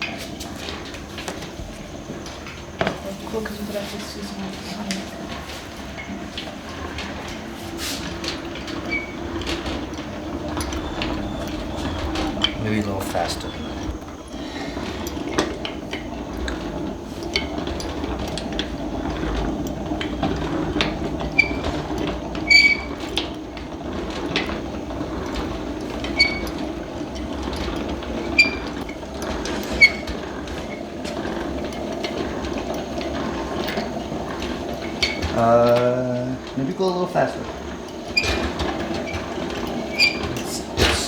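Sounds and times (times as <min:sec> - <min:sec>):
honey extractor whirring rattle: 0:00.0 - 0:41.0.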